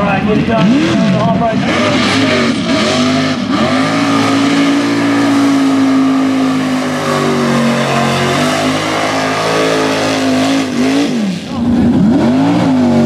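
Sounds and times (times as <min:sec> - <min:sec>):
truck engine revving high: 0:00.0 - 0:13.0.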